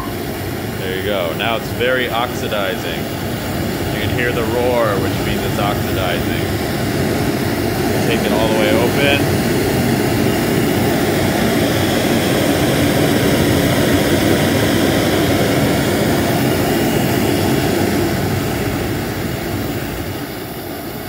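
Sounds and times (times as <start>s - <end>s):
gas burner flame roaring: 0.0s - 21.0s.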